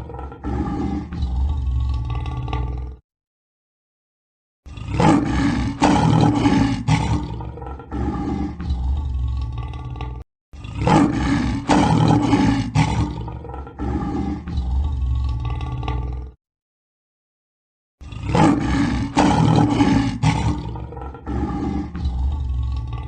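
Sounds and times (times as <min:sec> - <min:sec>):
lion roaring: 0:00.0 - 0:03.0, 0:04.7 - 0:16.4, 0:18.0 - 0:23.0.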